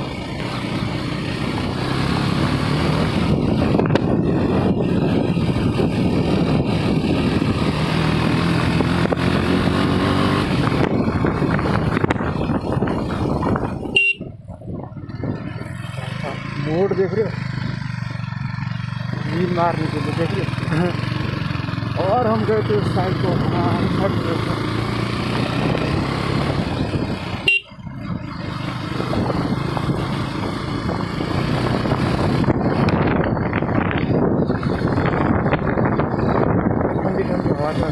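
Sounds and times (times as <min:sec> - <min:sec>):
motorcycle engine running: 0:00.0 - 0:37.9
wind and road noise: 0:00.0 - 0:37.9.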